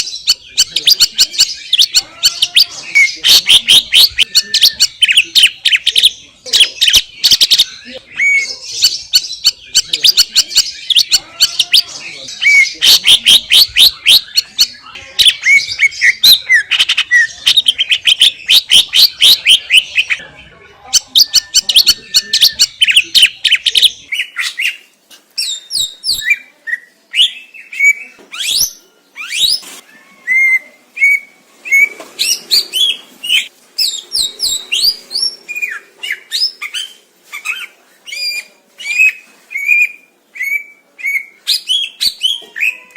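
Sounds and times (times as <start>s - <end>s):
bird singing: 0.0s - 42.9s.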